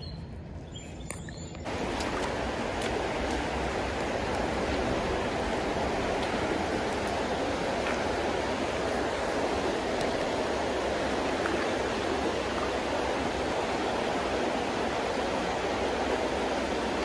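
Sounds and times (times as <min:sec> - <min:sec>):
creek water over rocks: 0:01.6 - 0:17.0.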